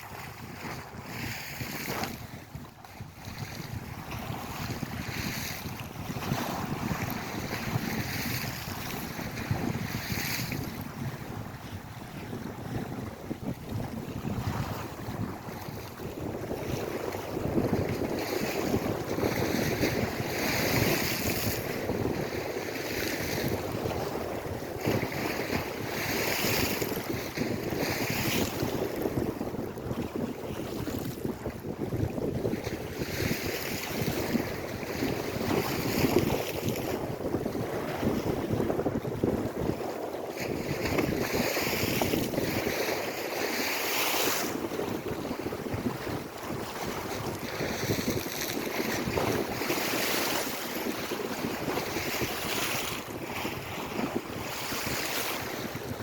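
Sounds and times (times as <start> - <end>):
waves breaking and washing in: 0.0 - 56.0
wind rumble on microphone: 0.0 - 56.0.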